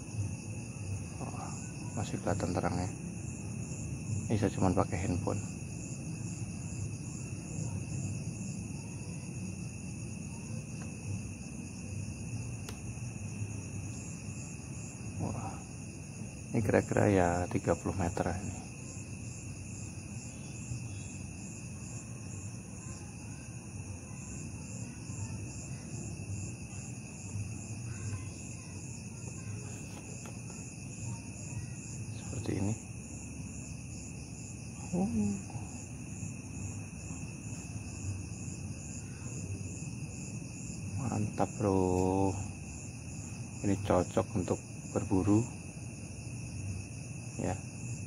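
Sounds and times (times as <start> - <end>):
crickets trilling: 0.0 - 48.0.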